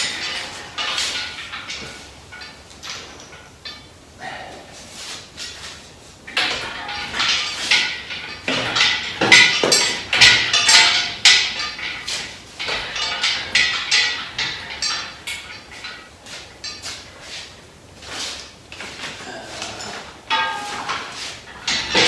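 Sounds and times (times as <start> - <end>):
metallic clanks and knocks: 0.0 - 22.0.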